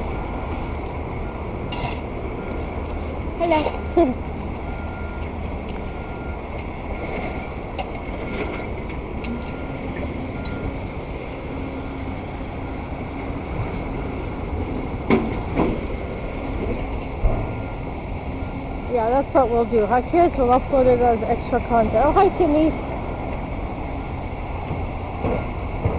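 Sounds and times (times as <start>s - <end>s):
reversing alarm beeping: 0.0s - 15.1s, 16.4s - 24.2s
construction machinery: 0.0s - 25.9s
street traffic rumble: 0.0s - 25.9s.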